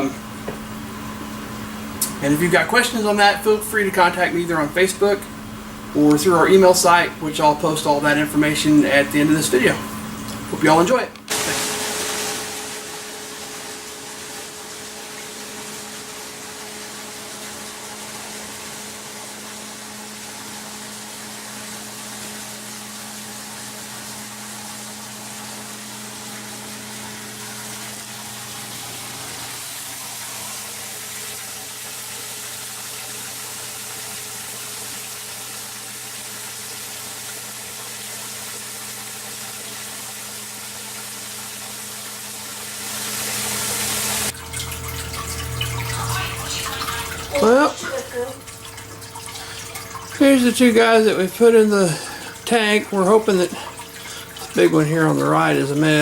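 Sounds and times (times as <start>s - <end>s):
pump hum: 0.0s - 56.0s
running water hiss: 0.0s - 56.0s.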